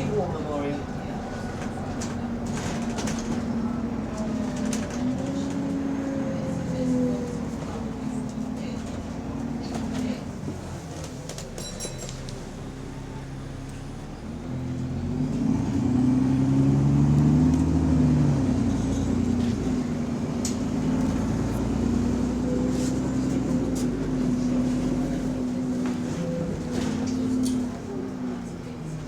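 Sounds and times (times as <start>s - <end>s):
diesel bus engine pulling away: 0.0s - 29.0s.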